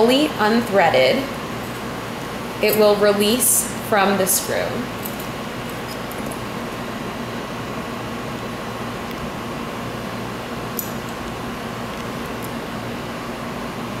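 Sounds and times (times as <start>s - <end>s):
ventilation hum: 0.0s - 14.0s.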